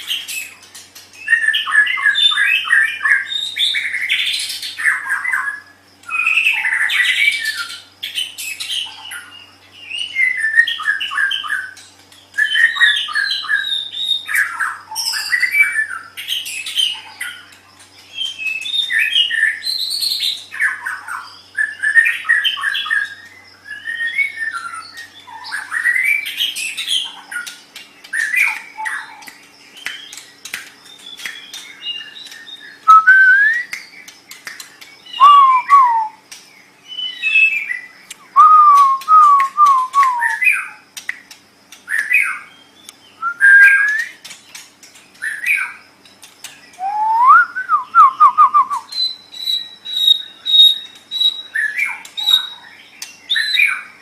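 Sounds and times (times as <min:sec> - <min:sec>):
bird singing whistles and clicks: 0:10.0 - 0:53.8.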